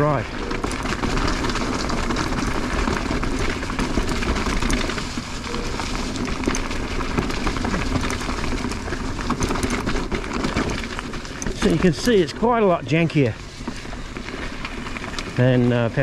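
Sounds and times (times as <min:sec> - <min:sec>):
bike rattling over rocks: 0:00.0 - 0:16.0
tyres crunching over loose stones: 0:00.0 - 0:16.0.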